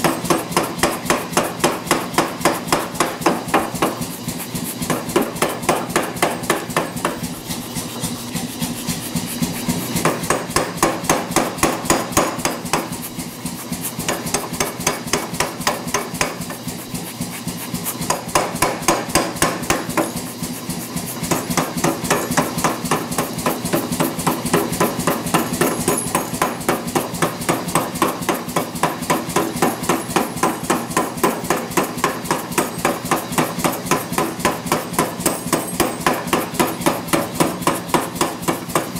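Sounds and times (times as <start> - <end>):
power hammer pounding steel: 0.0 - 38.9.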